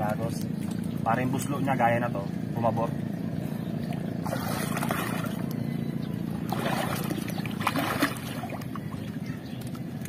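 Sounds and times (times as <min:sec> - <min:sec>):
steady low hum: 0:00.0 - 0:10.0
water splashing and sloshing: 0:00.0 - 0:10.0.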